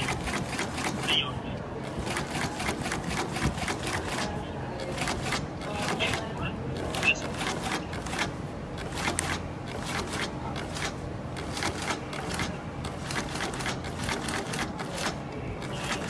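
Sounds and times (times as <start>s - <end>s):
sewing machine motor hum: 0.0s - 16.0s.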